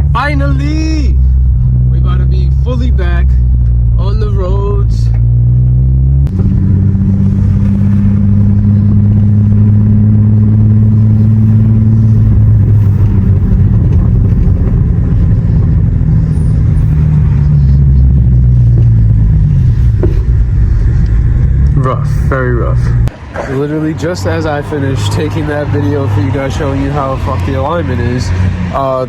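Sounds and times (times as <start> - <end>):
car engine: 0.0 - 29.0
road noise: 0.0 - 29.0.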